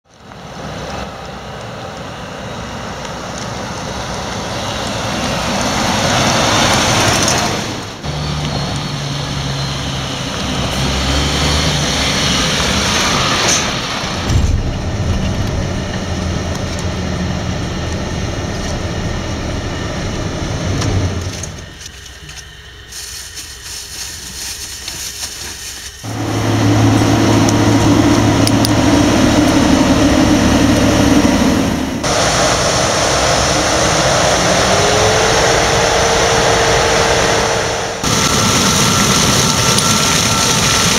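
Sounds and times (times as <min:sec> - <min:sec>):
diesel tractor engines running: 0:00.0 - 0:40.9
truck passing: 0:00.1 - 0:21.8, 0:26.0 - 0:40.9.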